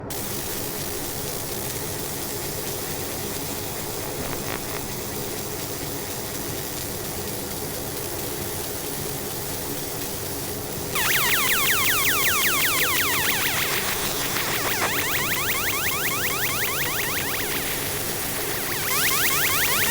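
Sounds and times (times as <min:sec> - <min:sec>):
machine fans hissing: 0:00.0 - 0:19.9.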